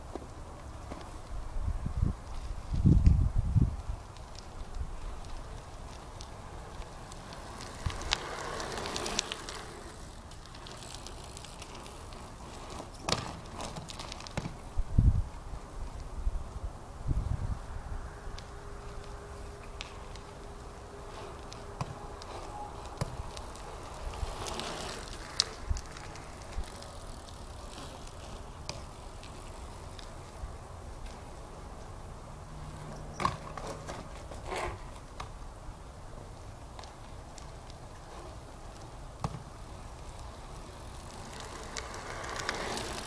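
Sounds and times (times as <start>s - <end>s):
bike tyres rolling: 0.0s - 43.0s.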